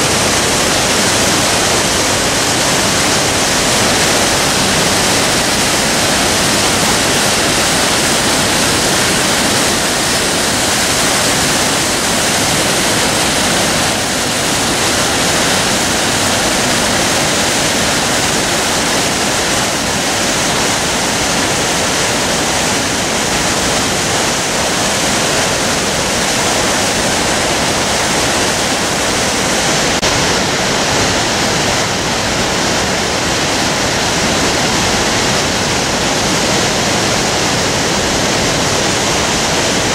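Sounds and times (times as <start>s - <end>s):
waterfall and rapids rushing: 0.0s - 39.9s.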